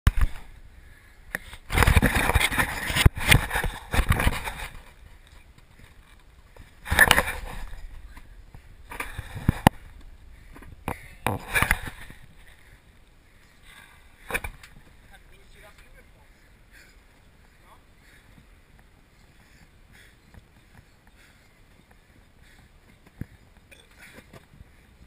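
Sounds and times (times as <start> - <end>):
rustling and rumbling noise: 0.1 - 25.0.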